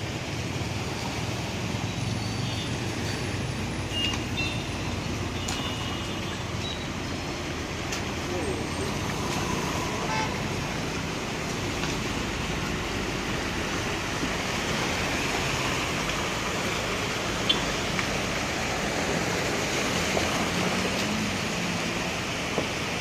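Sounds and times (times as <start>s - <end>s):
tyres splashing through water: 0.0s - 23.0s.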